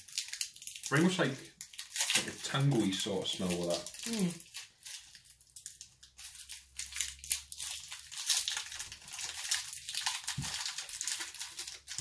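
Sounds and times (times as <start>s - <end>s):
candy wrappers crinkling: 0.0s - 12.0s.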